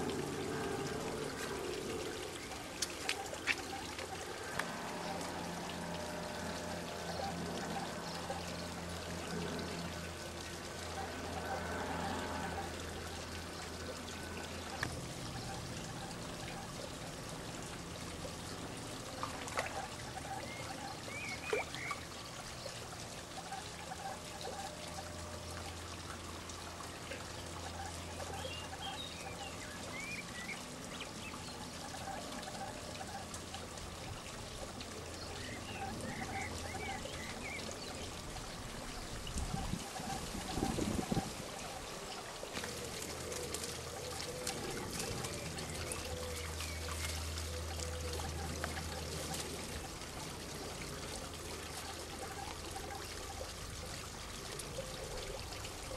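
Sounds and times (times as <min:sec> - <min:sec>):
water trickling into pond: 0:00.0 - 0:55.9.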